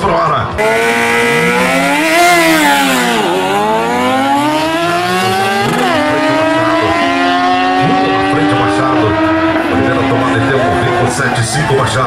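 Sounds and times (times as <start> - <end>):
motorcycles accelerating hard: 0.6 - 12.0.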